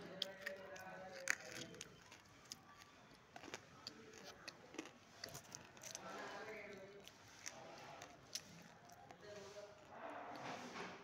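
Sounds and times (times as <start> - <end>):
faint crunchy chewing: 0.0 - 11.0.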